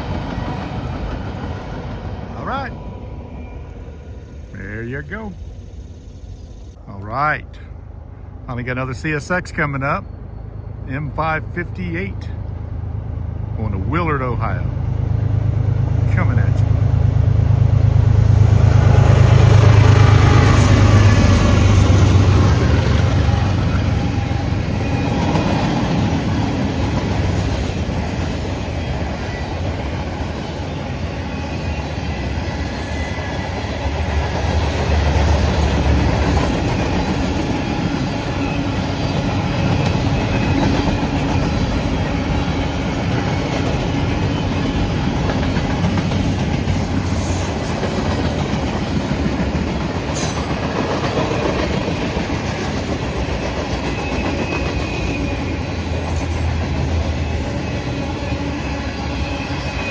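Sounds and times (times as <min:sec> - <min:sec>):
freight train rumbling past: 0:00.0 - 0:59.9
wheels clacking over rail joints: 0:11.4 - 0:59.9.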